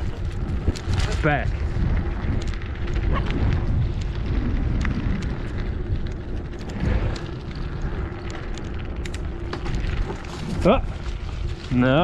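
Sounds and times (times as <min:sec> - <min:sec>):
bicycle tyres rolling on gravel: 0:00.0 - 0:12.0
wind buffeting microphone: 0:00.0 - 0:12.0.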